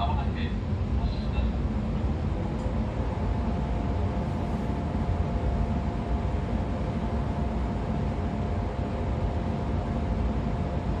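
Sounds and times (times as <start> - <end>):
faint steady motor whine: 0.0 - 11.0
low rumble of wheels on rail: 0.0 - 11.0.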